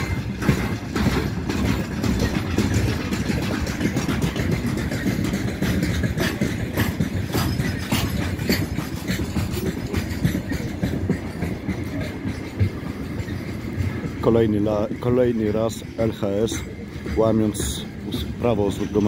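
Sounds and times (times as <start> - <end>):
freight train rumbling past: 0.0 - 19.0
wheels knocking and clattering: 0.0 - 19.0.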